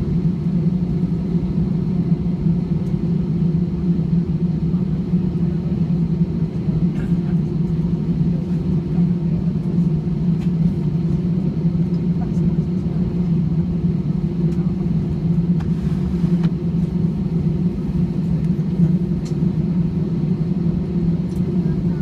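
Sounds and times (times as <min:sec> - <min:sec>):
airliner cabin drone: 0:00.0 - 0:22.0.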